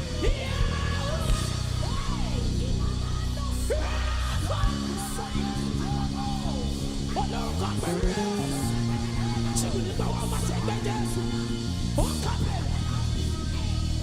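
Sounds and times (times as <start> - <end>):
person singing: 0.0 - 14.0
sustained low chords: 0.0 - 14.0.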